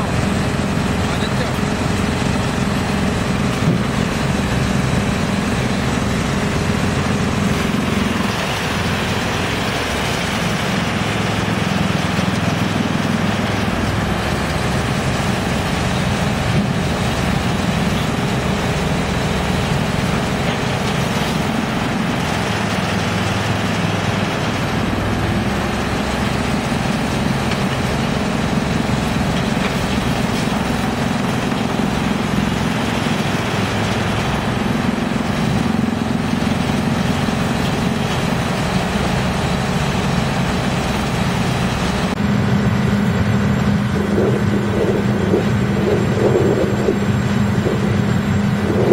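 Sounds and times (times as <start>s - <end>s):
wood chipper and excavator drone: 0.0s - 48.9s.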